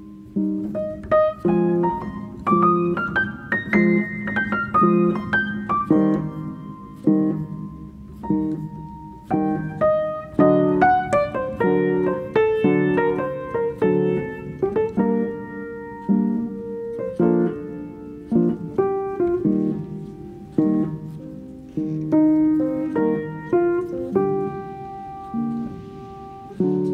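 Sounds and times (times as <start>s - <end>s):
piano music: 0.0s - 26.9s.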